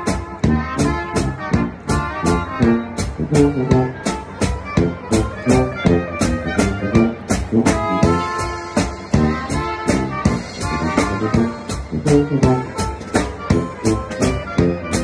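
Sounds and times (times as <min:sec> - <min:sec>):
polka band playing: 0:00.0 - 0:15.0
steady drum beat: 0:00.0 - 0:15.0
tuba: 0:00.0 - 0:15.0.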